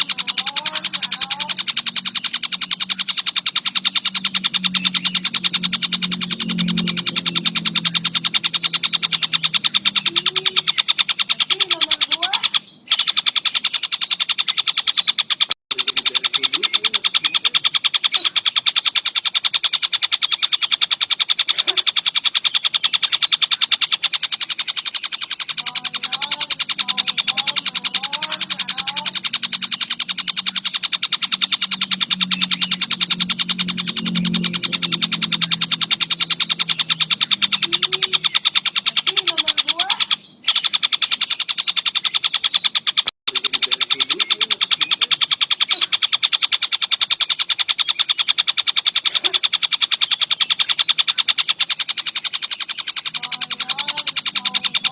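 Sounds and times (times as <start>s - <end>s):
kingfisher calling: 0.0s - 54.9s.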